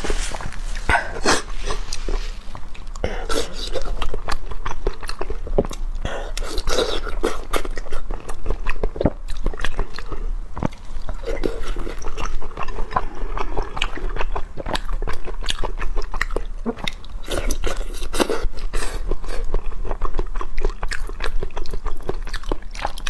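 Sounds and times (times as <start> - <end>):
wet chewing: 0.0 - 23.0.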